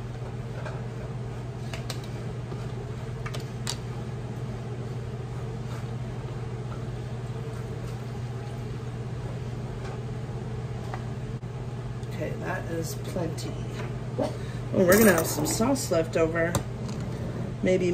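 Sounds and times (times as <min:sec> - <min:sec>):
low background hum: 0:00.0 - 0:17.9.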